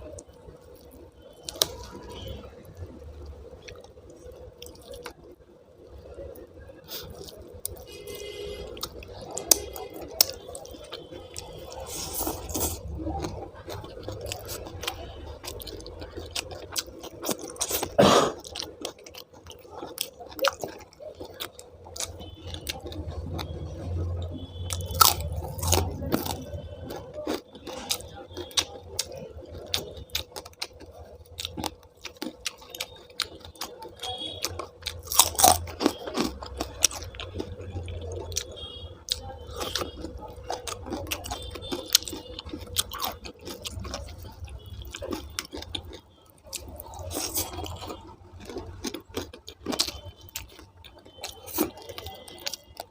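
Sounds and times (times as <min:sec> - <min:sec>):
wet chewing with crunches: 0:00.0 - 0:52.9.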